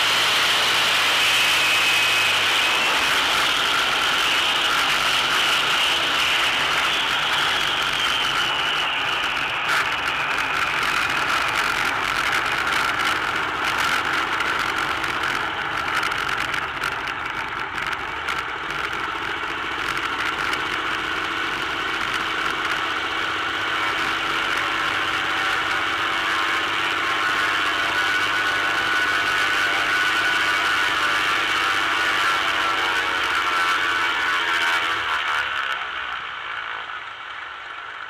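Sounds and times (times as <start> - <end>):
propeller plane engine running: 0.0 - 38.0.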